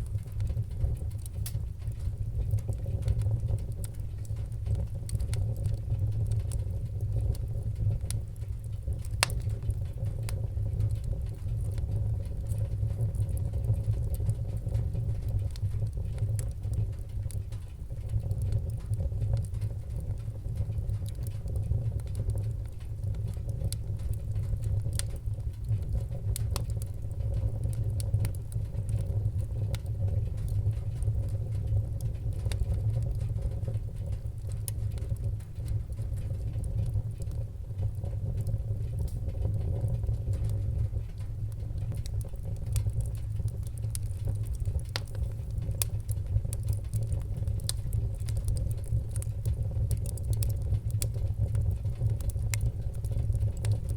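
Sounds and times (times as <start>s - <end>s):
fire crackling and popping: 0.0s - 53.9s
low fire rumble: 0.0s - 53.9s.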